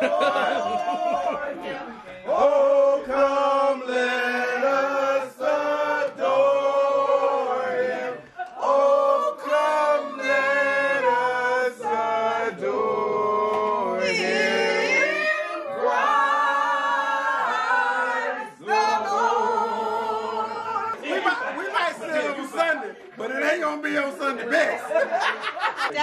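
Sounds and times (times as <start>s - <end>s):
group singing a carol: 0.0s - 24.0s.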